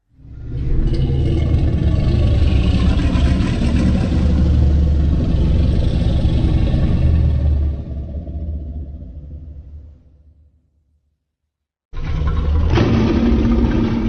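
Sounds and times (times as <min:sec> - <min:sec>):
deep rumbling creature roar: 0:00.2 - 0:10.2, 0:12.0 - 0:14.0.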